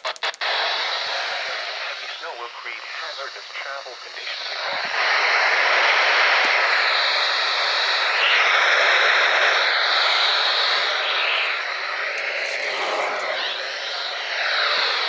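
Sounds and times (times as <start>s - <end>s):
radio static hissing: 0.0s - 15.0s.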